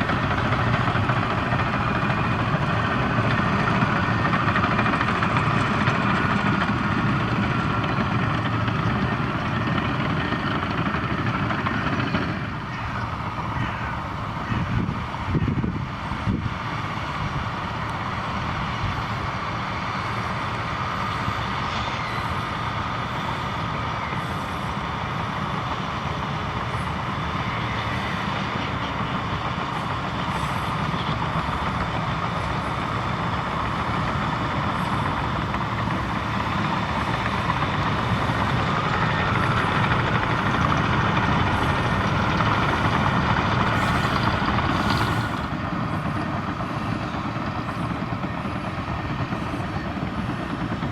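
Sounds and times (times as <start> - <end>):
bulldozer diesel engine under load: 0.0 - 50.9.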